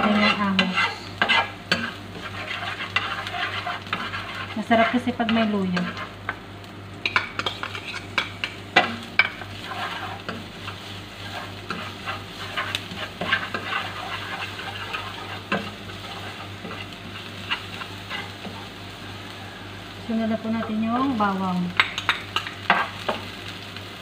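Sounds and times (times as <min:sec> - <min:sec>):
spatula scraping a pan: 0:00.0 - 0:06.2, 0:07.0 - 0:19.7, 0:21.8 - 0:23.3
garlic sizzling in hot oil: 0:00.0 - 0:24.0.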